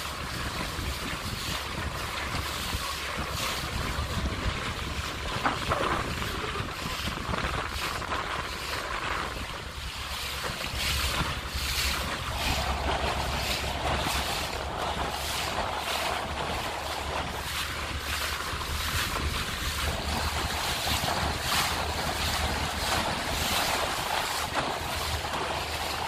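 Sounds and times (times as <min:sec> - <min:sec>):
water splashing against boat hull: 0:00.0 - 0:26.0
wind buffeting microphone: 0:00.0 - 0:26.0.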